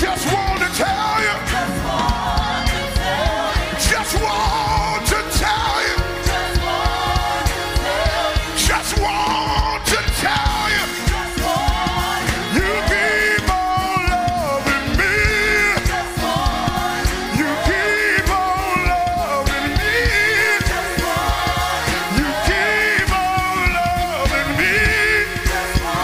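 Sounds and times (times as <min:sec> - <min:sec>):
band playing fast beat: 0:00.0 - 0:26.0
singers holding long notes: 0:00.0 - 0:26.0.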